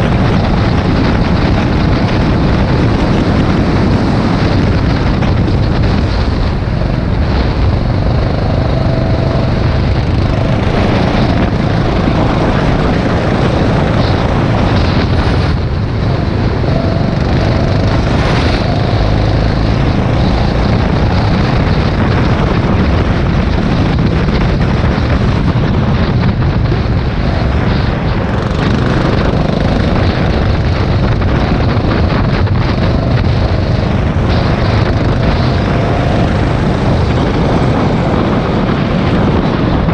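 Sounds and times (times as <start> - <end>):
go-kart engine racing: 0.0 - 39.9
track noise: 0.0 - 39.9
wind rushing: 0.0 - 39.9.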